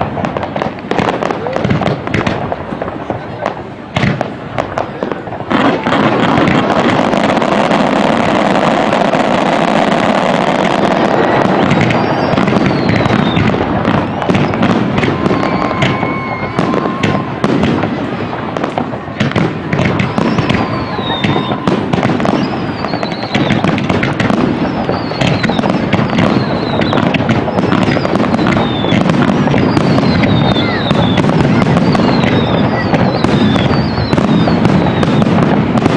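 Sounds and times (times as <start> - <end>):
fireworks bangs and crackle: 0.0 - 35.9
firework whistles falling in pitch: 4.0 - 35.9.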